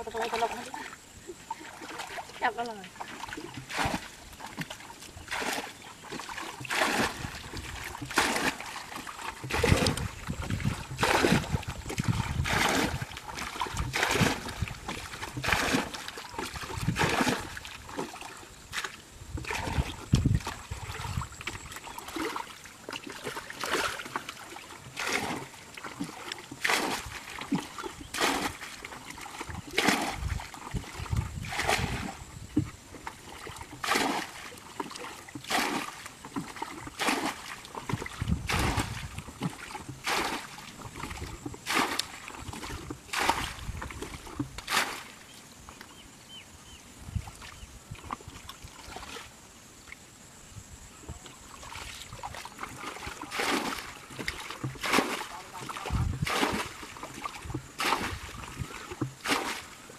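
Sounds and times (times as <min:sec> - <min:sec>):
water sloshing from bucket: 0:00.0 - 0:50.0, 0:50.9 - 0:59.9.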